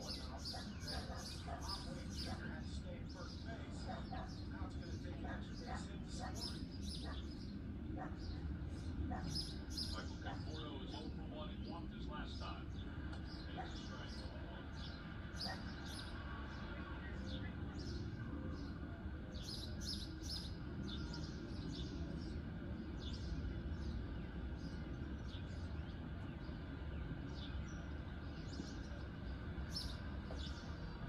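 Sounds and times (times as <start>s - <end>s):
birds chirping: 0.0s - 31.0s
steady low rumble: 0.0s - 31.0s.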